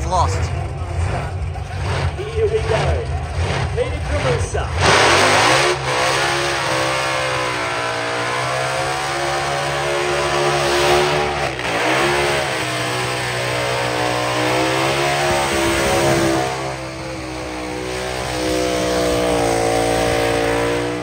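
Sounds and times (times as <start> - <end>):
car engine revving high: 0.2 - 21.0.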